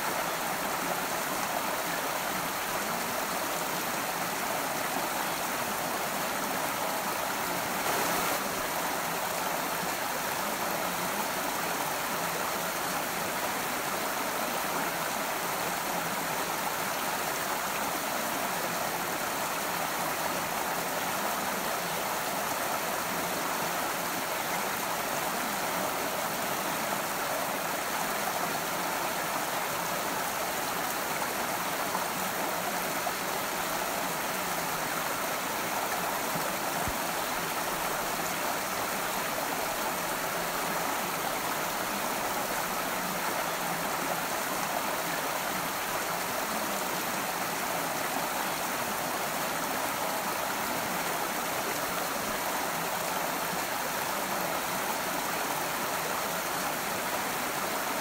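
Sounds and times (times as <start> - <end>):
creek running over rocks: 0.0 - 58.0.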